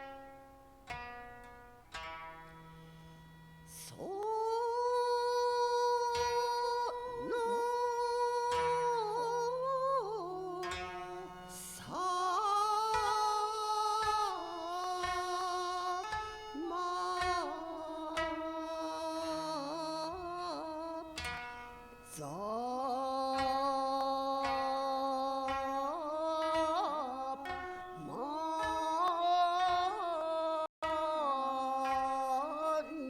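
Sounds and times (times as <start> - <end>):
plucked zither notes: 0.0 - 33.0.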